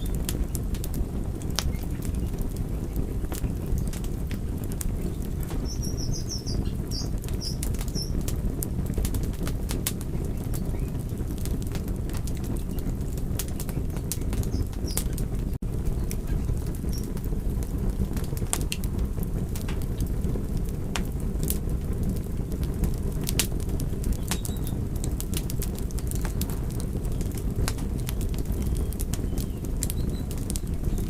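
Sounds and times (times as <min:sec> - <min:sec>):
fire pops and snaps: 0:00.0 - 0:31.0
low rumble of flames: 0:00.0 - 0:31.0.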